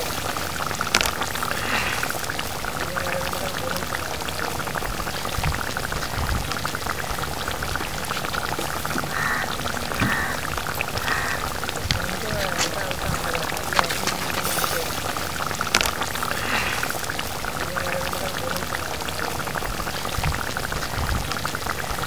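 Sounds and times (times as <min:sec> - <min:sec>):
thick curry bubbling: 0:00.0 - 0:22.0.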